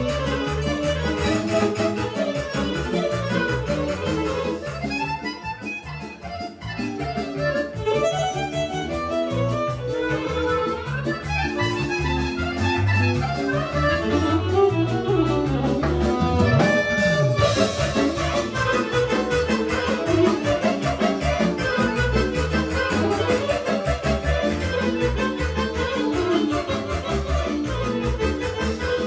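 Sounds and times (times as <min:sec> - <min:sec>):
folk band dance music: 0:00.0 - 0:29.0
violin lead: 0:00.0 - 0:29.0.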